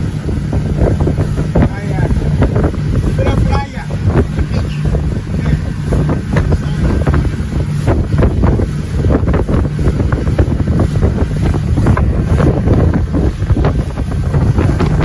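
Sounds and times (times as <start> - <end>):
boat motor humming: 0.0 - 15.0
water splashing against hull: 0.0 - 15.0
wind buffeting microphone: 0.0 - 15.0.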